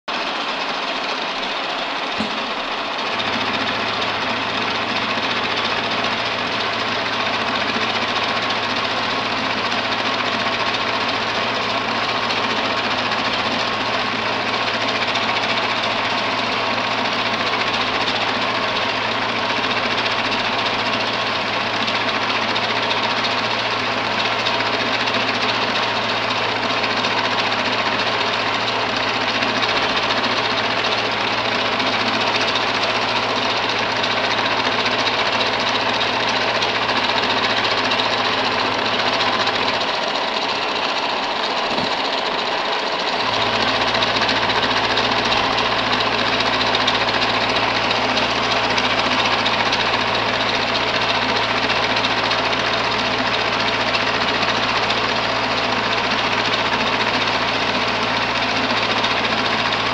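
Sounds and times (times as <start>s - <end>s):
milling machine cutting metal: 0.1s - 59.9s.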